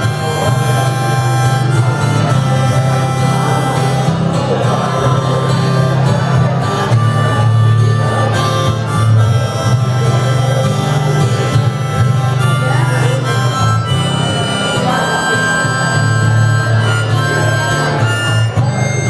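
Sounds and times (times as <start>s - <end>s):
acoustic guitar accompaniment: 0.0s - 19.0s
harmonica playing a folk melody: 0.0s - 19.0s.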